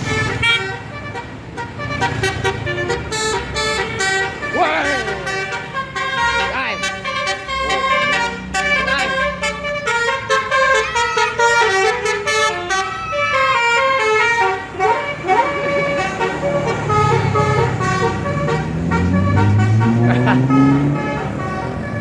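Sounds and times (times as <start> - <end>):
bus horn playing melody: 0.0 - 22.0.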